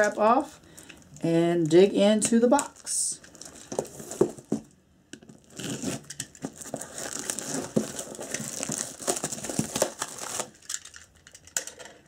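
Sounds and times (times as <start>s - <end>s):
plastic wrap crinkling: 0.0s - 11.6s.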